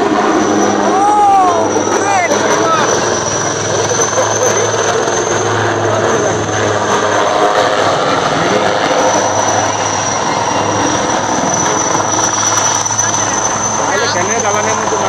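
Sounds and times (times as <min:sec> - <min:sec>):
helicopter flying low past: 0:00.0 - 0:15.0
high whine: 0:00.0 - 0:15.0.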